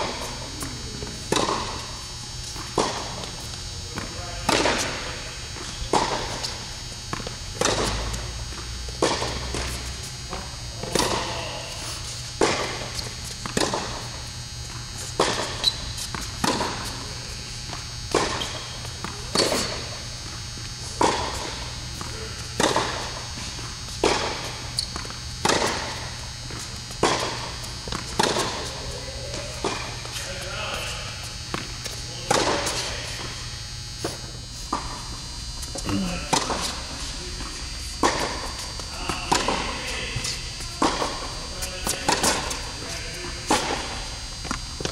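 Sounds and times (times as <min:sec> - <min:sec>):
tennis balls bouncing on court: 0:00.0 - 0:44.9
tennis balls hit by rackets: 0:00.0 - 0:44.9.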